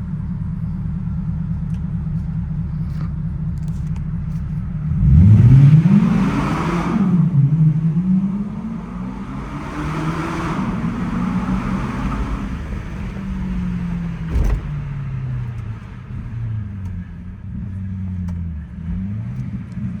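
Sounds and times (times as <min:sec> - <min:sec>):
car engine through loud exhaust: 0:00.0 - 0:20.0.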